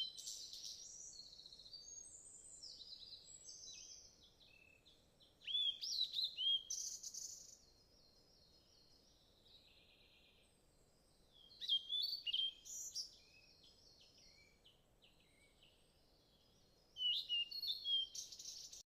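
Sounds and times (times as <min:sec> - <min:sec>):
faint bird chirping: 0:00.0 - 0:18.8.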